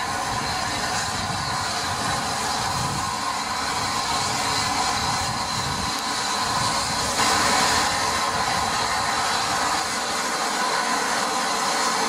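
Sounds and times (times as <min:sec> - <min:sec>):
steam hissing: 0:00.0 - 0:12.0
train wheels rumbling: 0:00.0 - 0:12.0.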